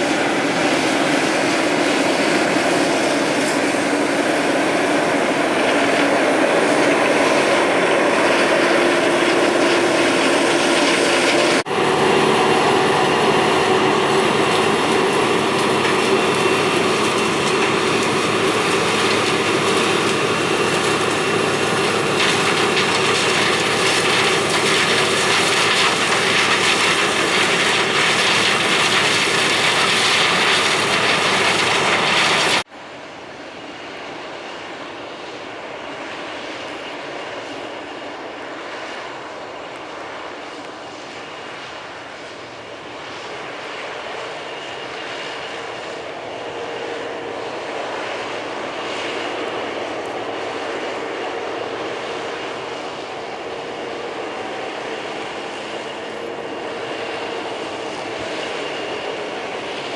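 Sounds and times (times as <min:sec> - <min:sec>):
combine harvester roaring: 0:00.0 - 0:59.9.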